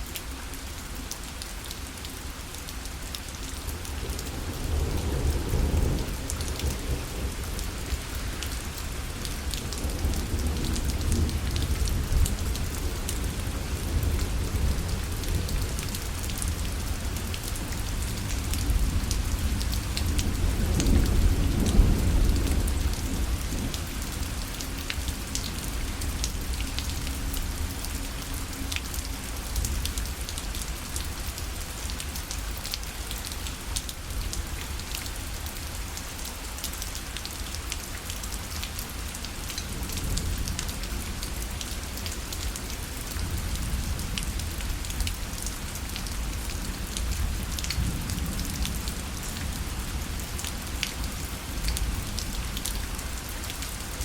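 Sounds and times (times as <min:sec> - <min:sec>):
rain pattering on fabric canopy: 0:00.0 - 0:54.0.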